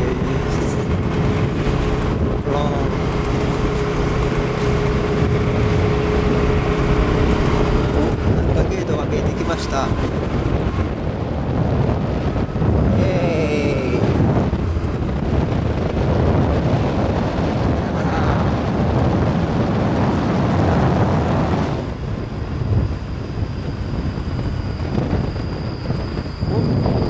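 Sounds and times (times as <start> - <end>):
motorcycle engine running: 0.0 - 27.0
wind noise on microphone: 0.0 - 27.0.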